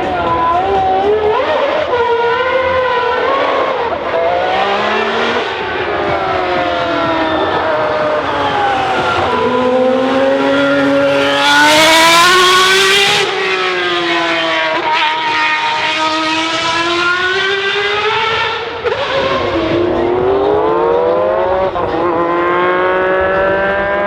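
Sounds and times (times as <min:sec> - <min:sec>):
race car engines revving past: 0:00.0 - 0:24.0.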